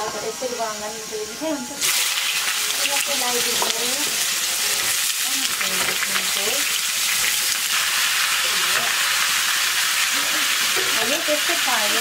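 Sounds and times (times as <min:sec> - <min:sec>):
pumpkin sizzling in hot oil: 0:00.0 - 0:12.0.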